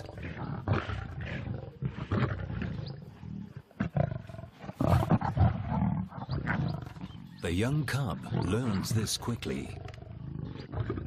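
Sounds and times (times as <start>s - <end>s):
lions snarling and growling: 0.0s - 11.0s.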